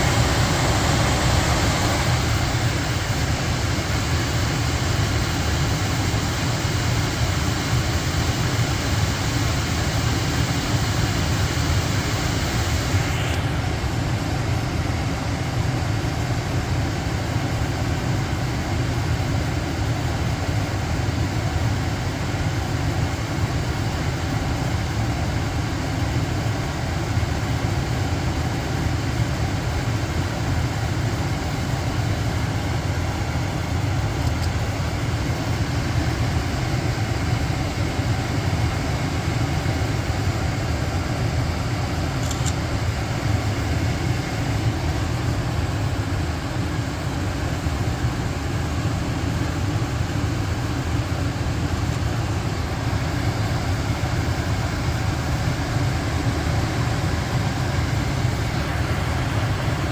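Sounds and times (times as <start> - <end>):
furnace humming with air rush: 0.0 - 59.9.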